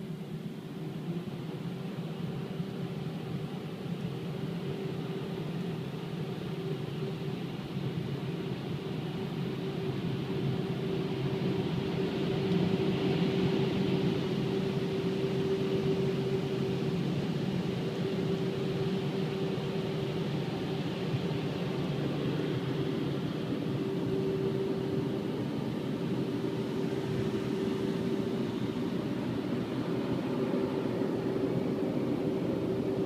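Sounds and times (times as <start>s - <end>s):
car wash machine humming and hissing: 0.0s - 33.0s.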